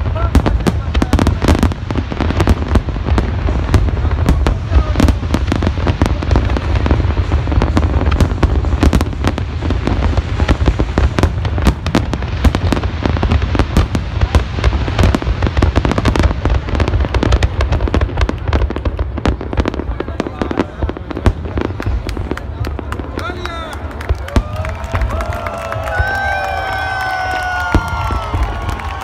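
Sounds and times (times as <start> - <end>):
fireworks bangs and pops: 0.0 - 29.0.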